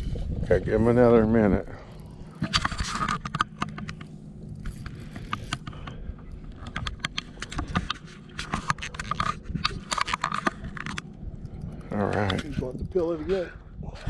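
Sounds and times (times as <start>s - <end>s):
steady low hum: 0.0s - 14.0s
fishing reel ticking and clicking: 1.9s - 13.5s.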